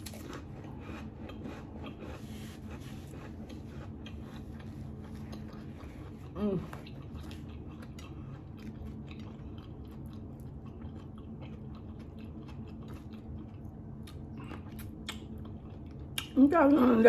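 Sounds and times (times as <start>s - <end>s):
person chewing food: 0.0s - 16.4s
steady low hum: 0.0s - 17.0s.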